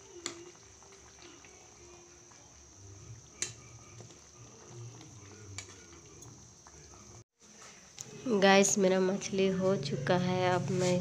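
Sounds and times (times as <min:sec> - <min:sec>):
curry simmering faintly: 0:00.0 - 0:11.0.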